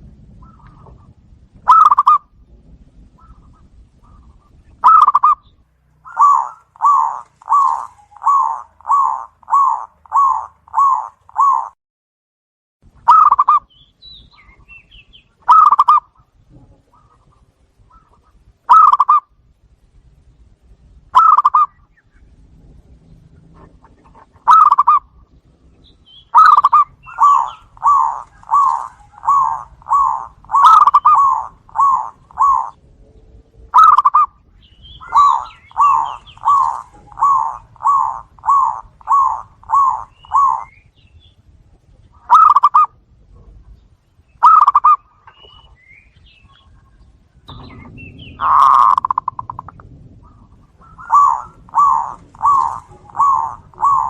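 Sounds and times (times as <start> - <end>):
doves cooing: 0.0 - 2.4, 3.0 - 11.8, 13.1 - 13.7, 14.4 - 19.4, 21.1 - 41.1, 41.9 - 43.8, 44.4 - 54.0.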